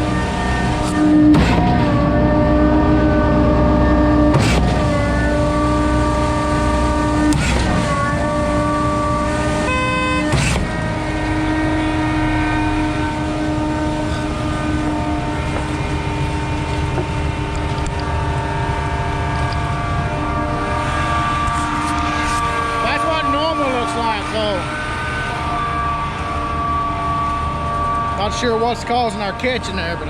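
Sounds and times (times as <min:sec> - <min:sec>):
horn toot: 0:00.0 - 0:30.0
pump truck mechanical whine: 0:00.0 - 0:30.0.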